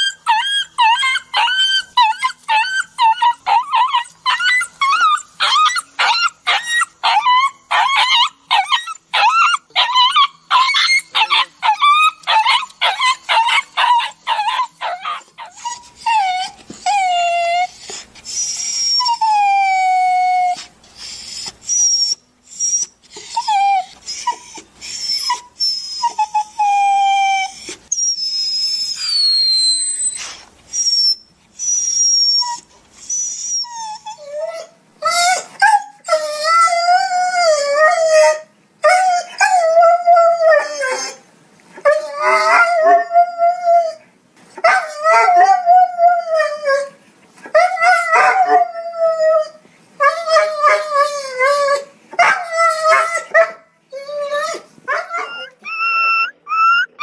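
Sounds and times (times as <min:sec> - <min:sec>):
dog whining and crying: 0:00.0 - 0:57.0.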